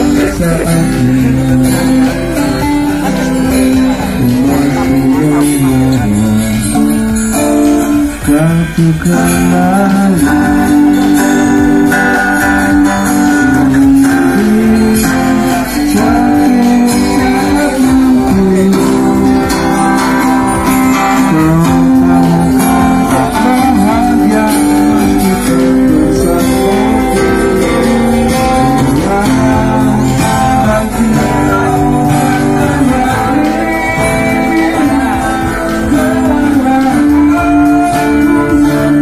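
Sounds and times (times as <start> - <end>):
faint singing voice: 0.0 - 39.0
loud guitar music: 0.0 - 39.0
steady bass: 0.0 - 39.0.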